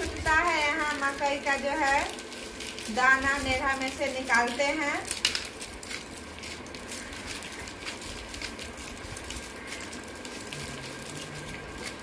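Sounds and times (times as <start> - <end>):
maize kernels clicking off cobs: 0.0 - 12.0.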